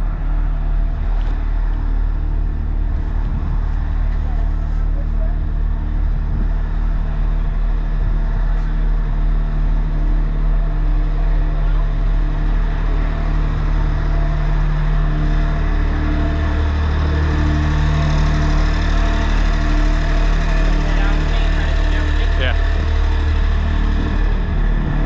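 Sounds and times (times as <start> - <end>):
sewer jetter engine running: 0.0 - 25.0.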